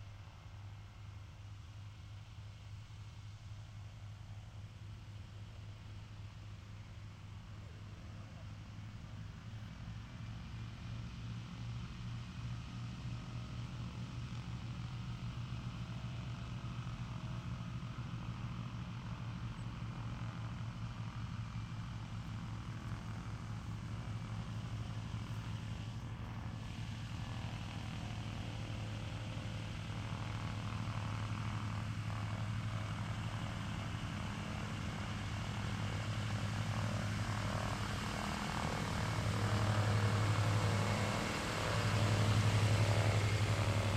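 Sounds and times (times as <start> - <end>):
propeller aircraft engines droning: 0.0 - 43.9.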